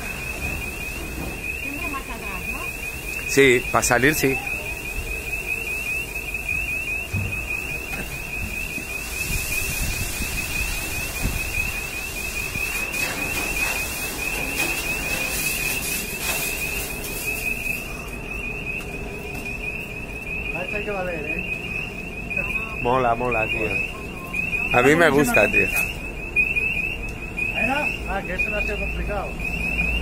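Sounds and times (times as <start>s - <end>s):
rapid high-pitched pulsing alarm beep: 0.0s - 30.0s.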